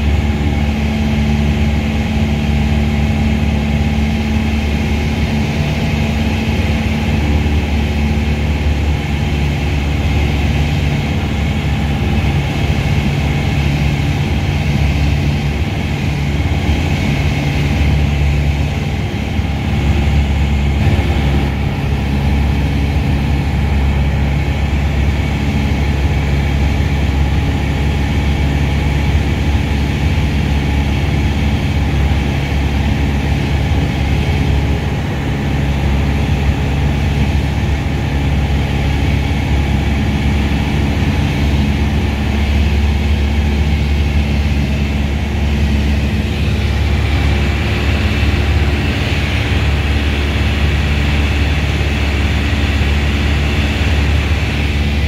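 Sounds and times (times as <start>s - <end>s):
aircraft engine drone from cabin: 0.0s - 55.0s.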